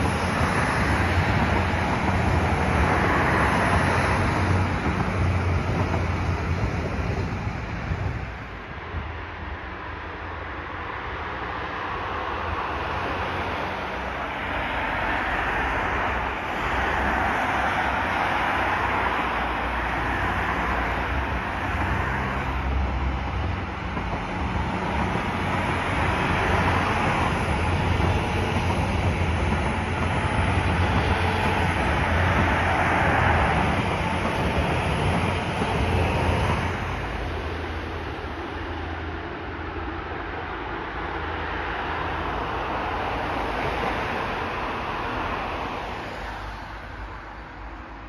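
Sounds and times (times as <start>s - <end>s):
road traffic: 0.0s - 48.0s
train engine drone: 0.0s - 48.0s
train wheels rumbling on rails: 0.0s - 48.0s.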